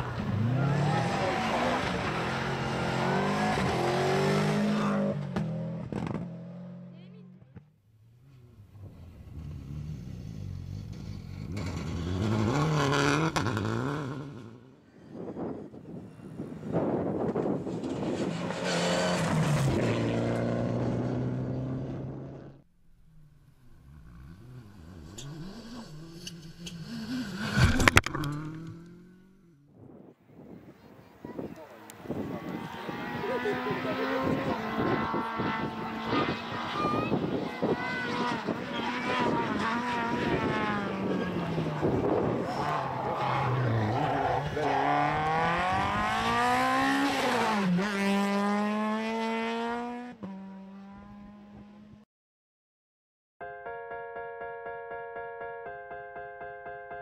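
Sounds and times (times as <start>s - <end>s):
rally car engine revving: 0.0s - 7.6s, 8.3s - 14.6s, 17.2s - 29.6s, 31.8s - 52.0s.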